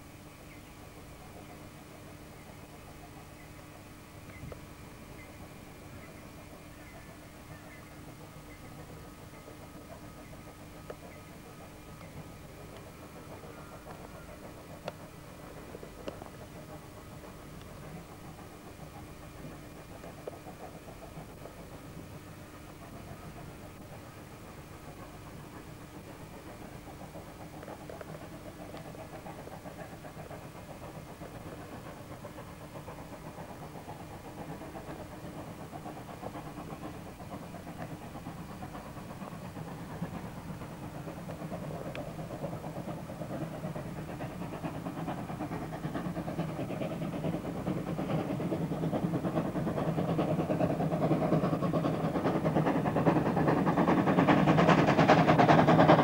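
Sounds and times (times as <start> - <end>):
steam locomotive approaching: 0.0 - 56.0.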